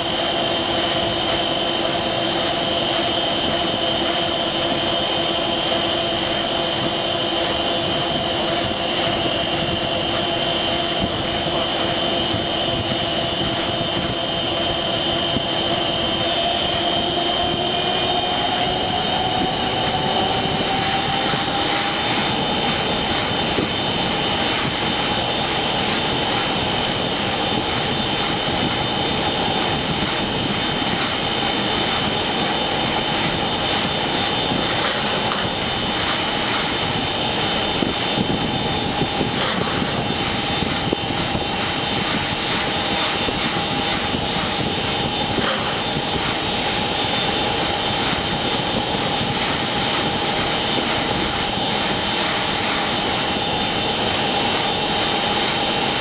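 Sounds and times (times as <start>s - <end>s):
large machine running: 0.0s - 56.0s
machine whine rising in pitch: 0.0s - 56.0s.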